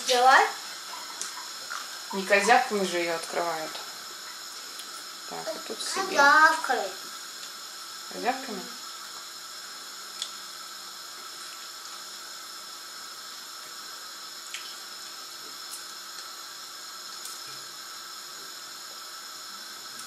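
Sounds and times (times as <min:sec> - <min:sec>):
faint high whine: 0:00.0 - 0:20.0
steady hiss: 0:00.0 - 0:20.0.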